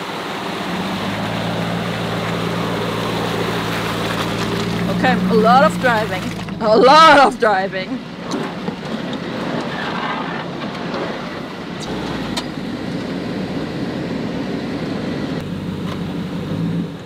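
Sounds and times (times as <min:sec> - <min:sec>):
truck engine and tyre noise: 0:00.0 - 0:17.0.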